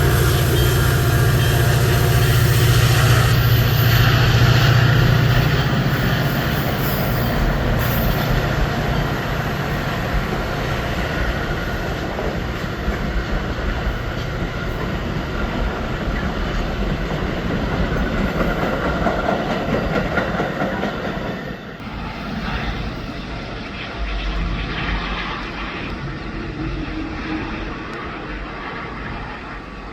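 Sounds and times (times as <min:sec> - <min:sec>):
train low hum: 0:00.0 - 0:29.9.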